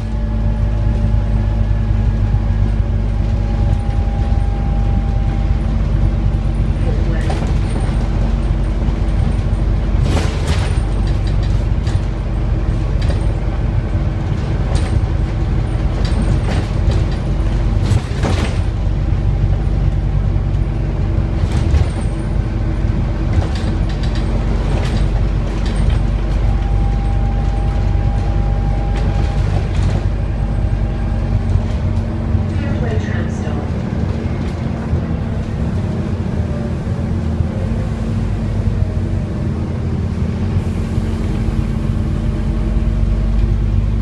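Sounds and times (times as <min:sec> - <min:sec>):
bus engine humming: 0:00.0 - 0:44.0
bus rattling and clicking: 0:00.0 - 0:44.0.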